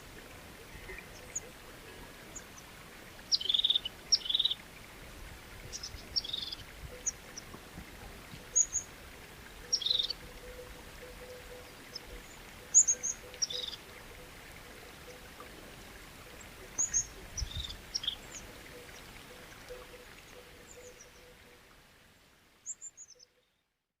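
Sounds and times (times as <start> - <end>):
flowing water hiss: 0.0 - 23.2.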